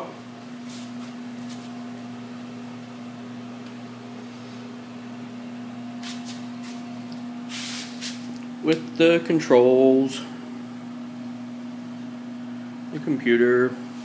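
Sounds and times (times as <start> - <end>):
electrical hum of machinery: 0.0 - 14.0.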